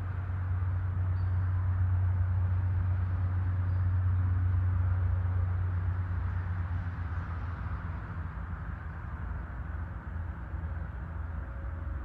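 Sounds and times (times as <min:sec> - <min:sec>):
low urban rumble: 0:00.0 - 0:12.0.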